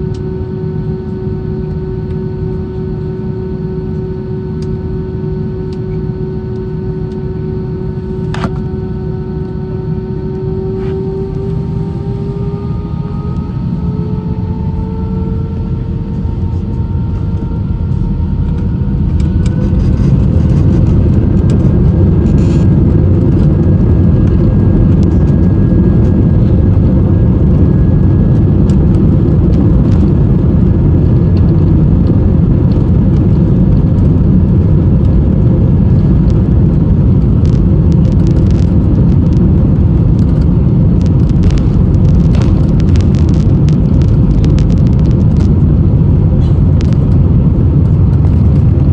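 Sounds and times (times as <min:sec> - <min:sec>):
jet engines spooling up: 0:05.8 - 0:48.9.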